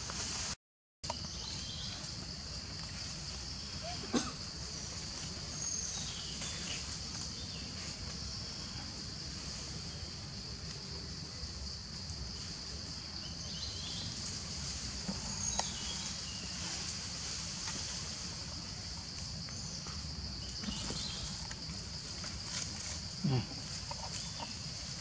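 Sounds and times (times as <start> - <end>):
high-pitched insect chorus: 1.1 - 25.0.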